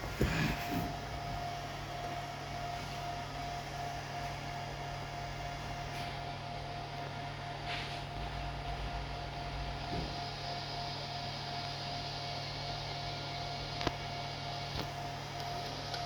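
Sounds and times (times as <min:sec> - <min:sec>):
electrical hum and fan noise: 0:00.0 - 0:16.0
thin steady whine: 0:00.0 - 0:16.0.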